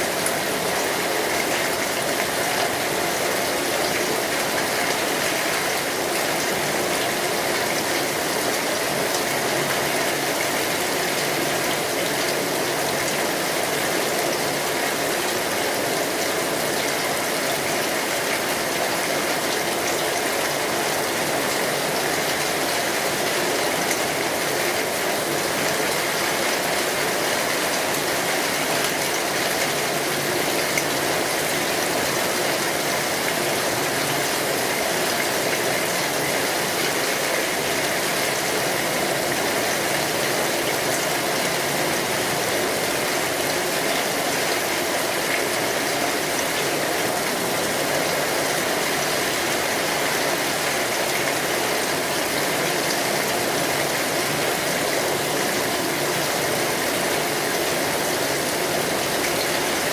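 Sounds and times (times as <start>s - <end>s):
heavy rain on an umbrella: 0.0s - 59.9s.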